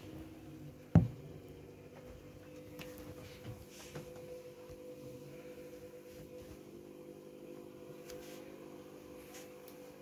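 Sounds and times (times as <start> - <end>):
washing machine drum whine: 0.0 - 10.0.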